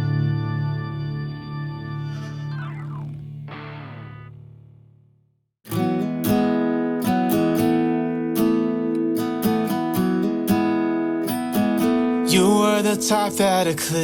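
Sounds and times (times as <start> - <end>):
strummed acoustic guitar chords: 0.0 - 4.8, 5.7 - 14.0.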